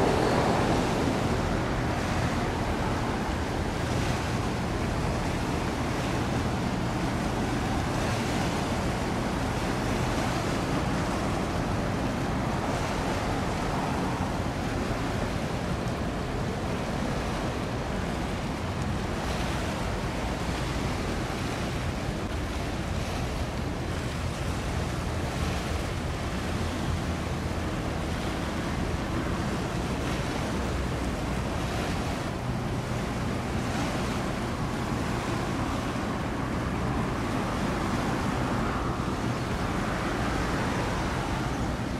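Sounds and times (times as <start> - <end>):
choppy sea water: 0.0 - 41.9
wind rushing over microphone: 0.0 - 41.9.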